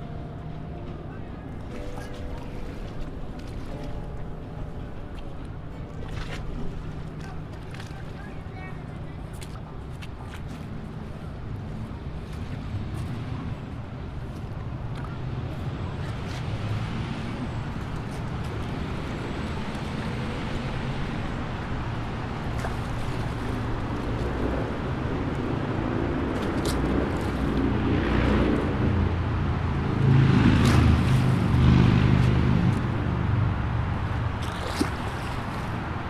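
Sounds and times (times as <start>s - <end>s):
low outdoor rumbling: 0.0s - 36.0s.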